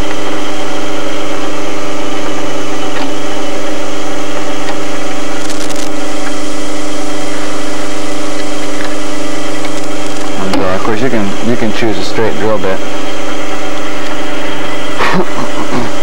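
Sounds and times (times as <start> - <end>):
drill press motor humming: 0.0 - 16.0.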